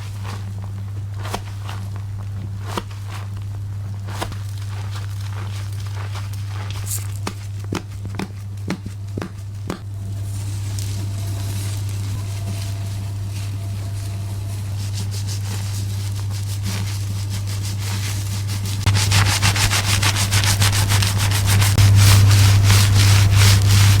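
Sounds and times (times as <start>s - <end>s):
fingers scratching hair and scalp: 0.0s - 24.0s
steady low hum: 0.0s - 24.0s.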